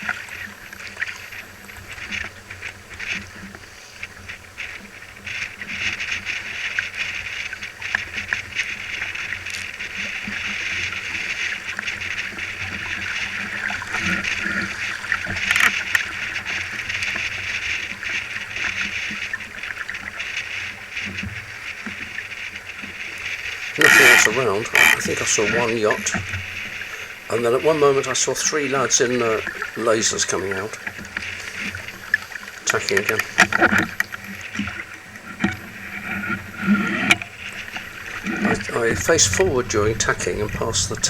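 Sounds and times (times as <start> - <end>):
water rushing along a hull: 0.0 - 41.0.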